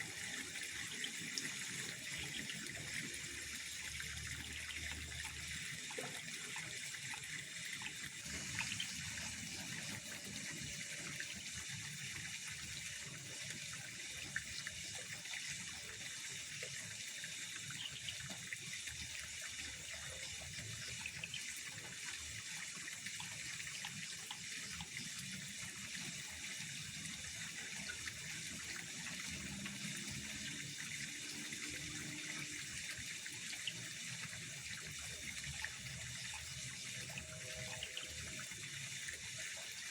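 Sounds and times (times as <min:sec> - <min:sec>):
pond water trickling: 0:00.0 - 0:39.9.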